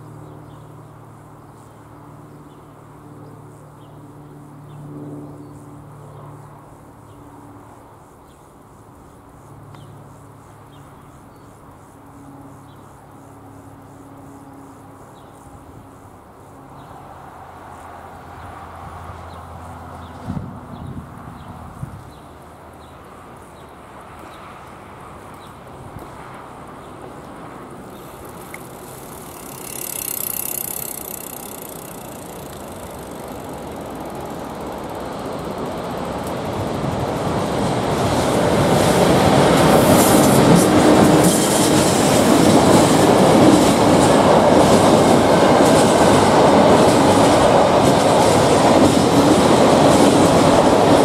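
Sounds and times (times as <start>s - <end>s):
bicycles passing: 0.0s - 51.0s.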